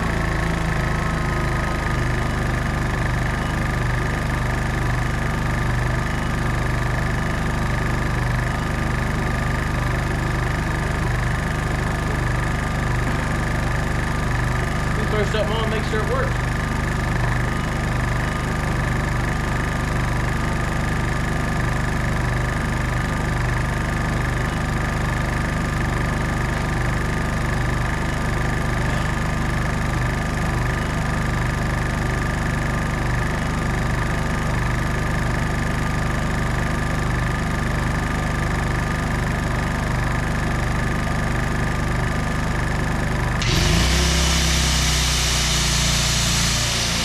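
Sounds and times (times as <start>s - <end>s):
generator running: 0.0s - 47.0s.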